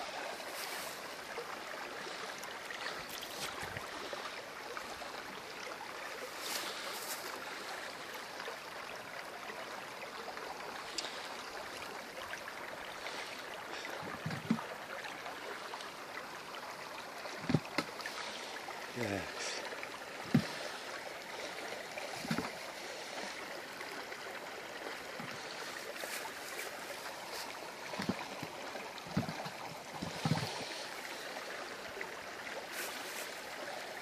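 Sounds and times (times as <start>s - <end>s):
stream babbling: 0.0s - 34.0s.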